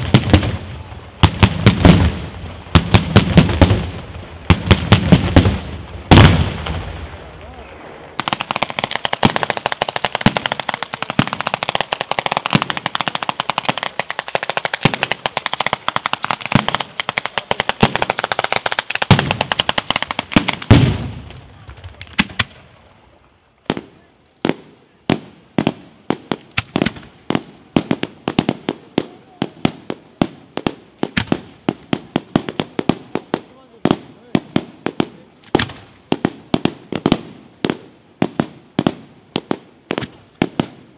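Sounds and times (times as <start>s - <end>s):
fireworks barrage crackling: 0.0s - 40.9s.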